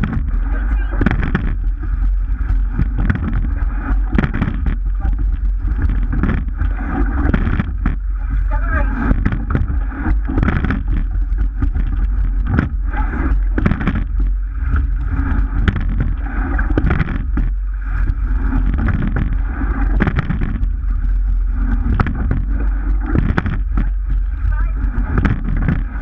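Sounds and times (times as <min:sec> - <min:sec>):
oars knocking in oarlocks: 0:00.0 - 0:01.6, 0:02.7 - 0:20.7, 0:21.8 - 0:26.0
low rumble: 0:00.0 - 0:26.0
water rushing along hull: 0:00.0 - 0:26.0.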